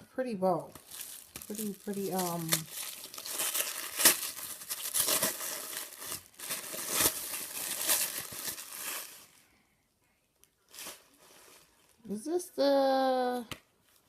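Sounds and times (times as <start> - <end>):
wrapping crinkling and rustling: 0.6 - 9.5, 10.4 - 14.0.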